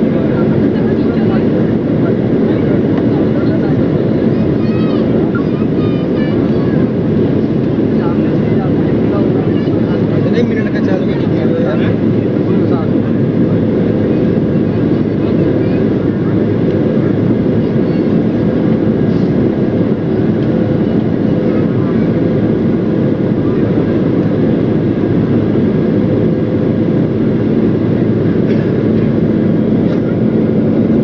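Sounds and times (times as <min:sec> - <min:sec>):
jet airliner engines: 0:00.0 - 0:31.0.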